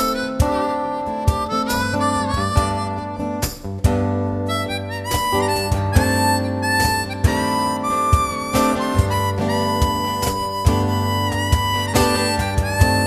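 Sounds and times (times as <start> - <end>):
guitar accompaniment: 0.0 - 13.0
harmonica playing: 0.0 - 13.0.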